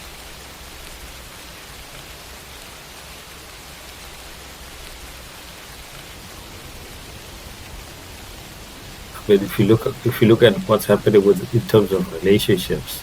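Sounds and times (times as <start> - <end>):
faint low hum: 0.0 - 13.0
steady hiss: 0.0 - 13.0.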